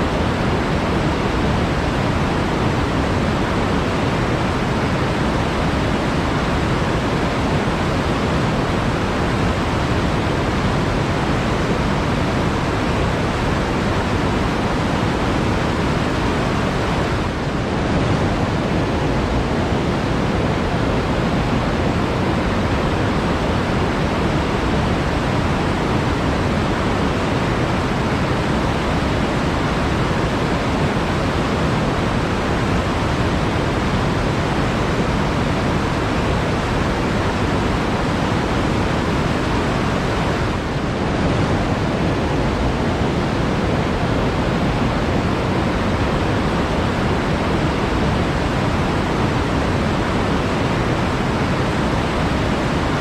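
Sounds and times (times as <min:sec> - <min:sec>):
flowing water: 0:00.0 - 0:53.0.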